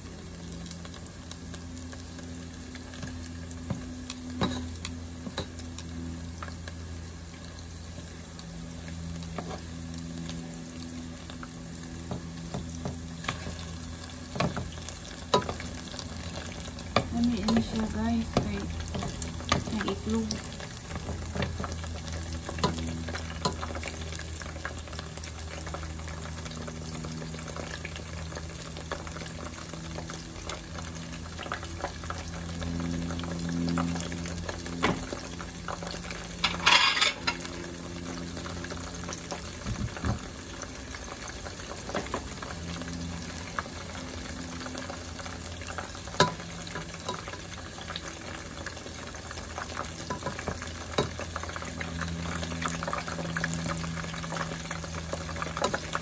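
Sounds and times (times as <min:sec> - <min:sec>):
deep-frying sizzle: 0:00.0 - 0:56.0.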